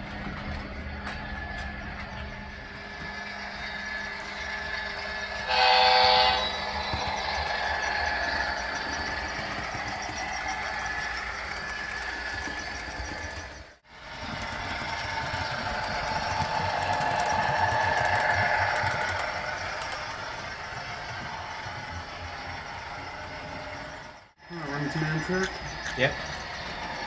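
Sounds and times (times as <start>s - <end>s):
model locomotive diesel engine sound: 0.0s - 27.0s.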